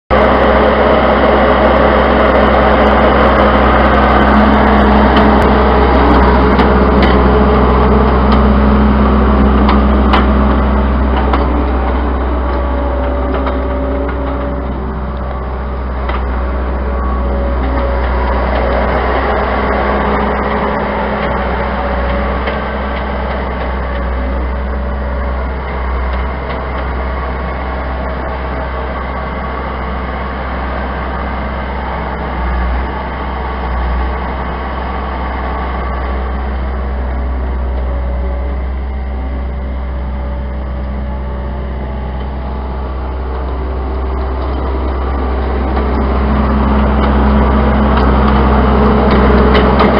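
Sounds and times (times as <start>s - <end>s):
diesel engine running under load: 0.1s - 49.9s.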